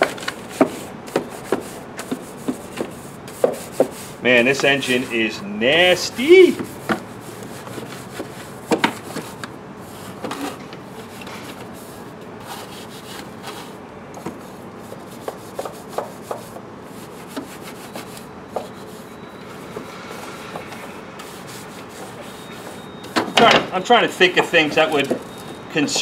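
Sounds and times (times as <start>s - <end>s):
brush tapping engine parts: 0.0s - 26.0s
brush scrubbing grime: 0.6s - 11.1s, 11.8s - 22.9s.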